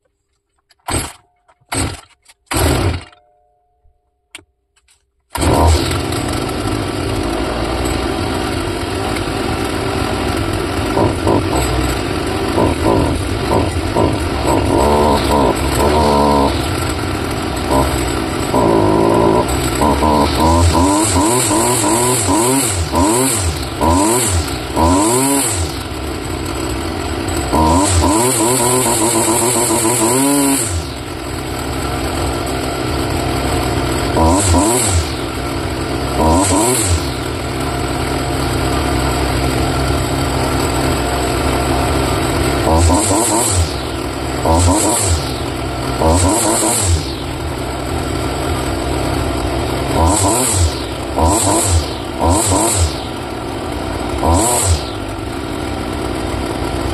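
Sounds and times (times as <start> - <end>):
grass trimmer engine revving: 0.8 - 3.2, 5.3 - 56.9.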